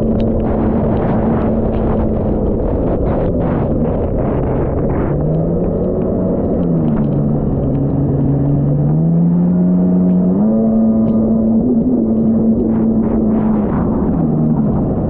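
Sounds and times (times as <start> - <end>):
watercraft engine running: 0.0 - 15.0.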